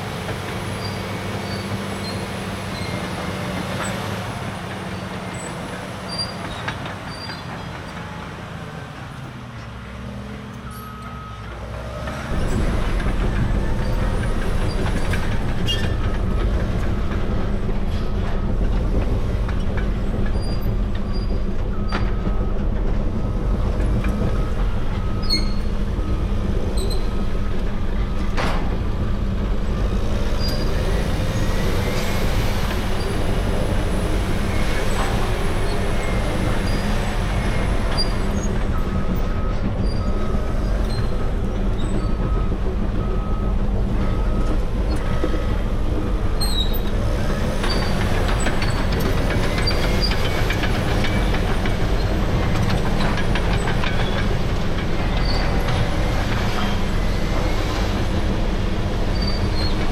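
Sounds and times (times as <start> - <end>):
steel tracks clanking and squealing: 0.0 - 8.4, 10.6 - 59.9
bulldozer diesel engine running: 0.0 - 59.9.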